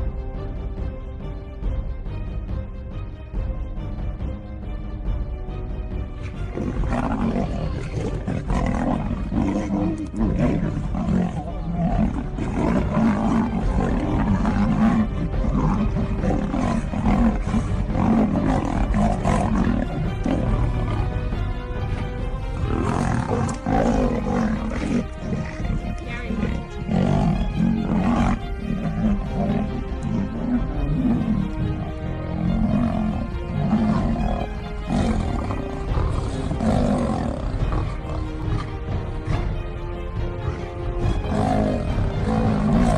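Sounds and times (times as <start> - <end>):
background music with sustained notes: 0.0 - 42.9
big cats snarling and roaring: 6.1 - 42.9.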